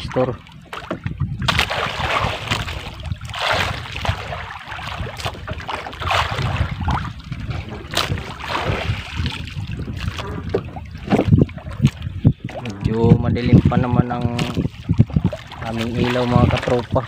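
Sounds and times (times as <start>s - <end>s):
water lapping against boat hull: 0.0s - 17.0s
wind rumbling on microphone: 0.0s - 17.0s.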